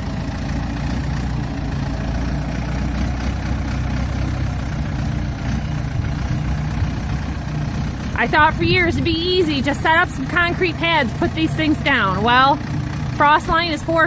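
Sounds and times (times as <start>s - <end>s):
backhoe engine idling: 0.0s - 14.0s.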